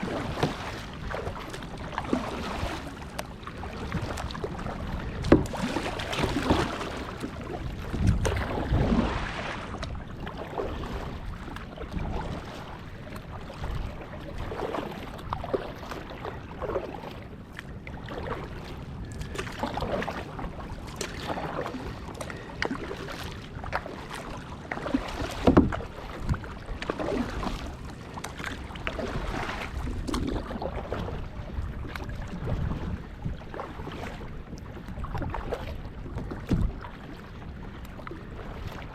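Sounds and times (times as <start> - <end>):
water splashing against kayak: 0.0 - 38.9.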